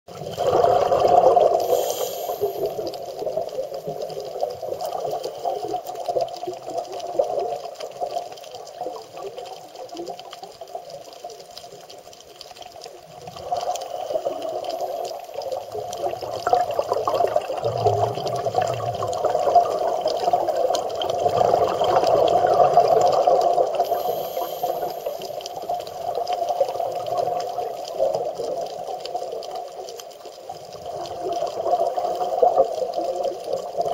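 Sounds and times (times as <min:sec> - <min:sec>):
muffled underwater rushing: 0:00.1 - 0:11.0, 0:12.8 - 0:33.9.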